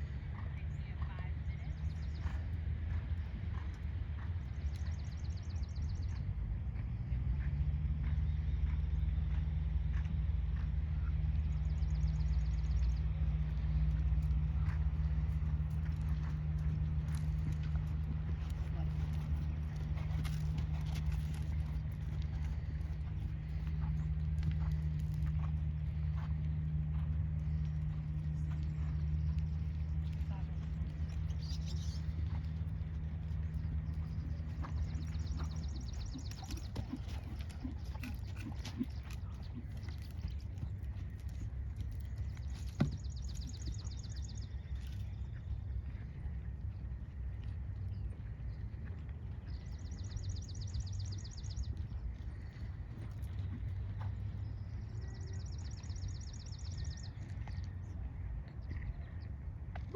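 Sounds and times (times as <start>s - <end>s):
horse hooves thudding: 0.0s - 59.0s
steady low hum: 0.0s - 59.9s
steady low rumble: 0.0s - 59.9s.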